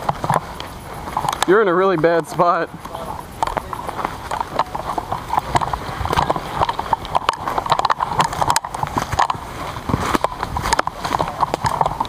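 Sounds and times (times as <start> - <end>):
footsteps through undergrowth: 0.0 - 12.0
gear jostling: 0.0 - 12.0.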